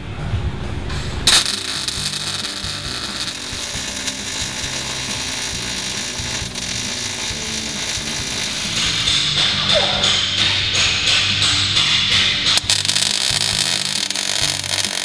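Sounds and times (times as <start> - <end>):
welding arc crackling: 0.9 - 15.0.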